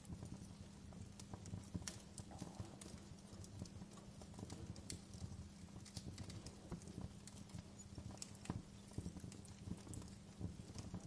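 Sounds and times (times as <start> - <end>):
logs crackling and popping: 0.0 - 11.0
low rumble of flames: 0.0 - 11.0.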